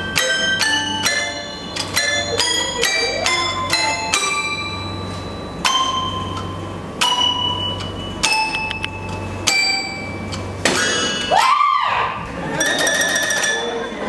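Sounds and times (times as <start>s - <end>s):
bell-like metallic notes: 0.0s - 11.4s, 12.4s - 14.0s
low steady hum: 0.0s - 14.0s.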